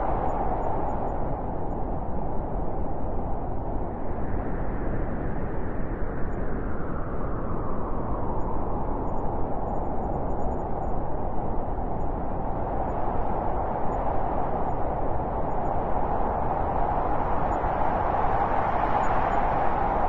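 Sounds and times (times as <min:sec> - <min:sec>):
blizzard wind rushing: 0:00.0 - 0:20.0.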